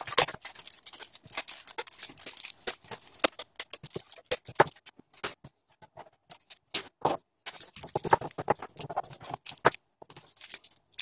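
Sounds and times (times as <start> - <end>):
plastic clicks and rattles: 0.0 - 11.0.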